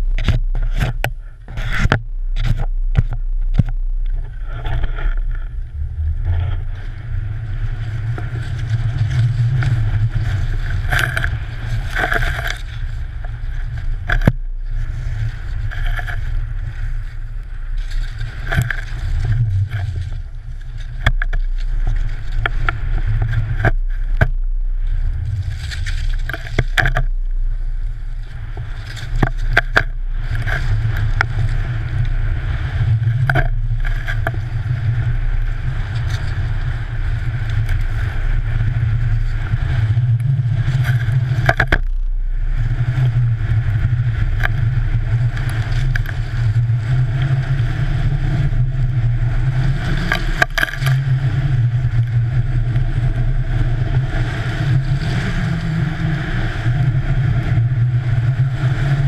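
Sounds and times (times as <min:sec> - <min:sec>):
wind rumbling on microphone: 0:00.0 - 0:59.0
skis scraping over snow: 0:04.2 - 0:59.0.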